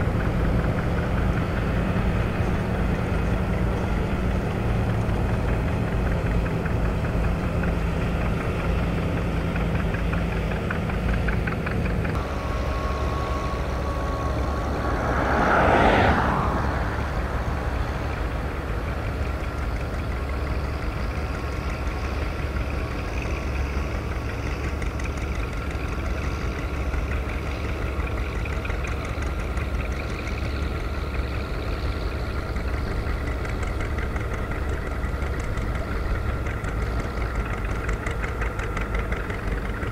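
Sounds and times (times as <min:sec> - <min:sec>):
tractor engines running: 0:00.0 - 0:39.9.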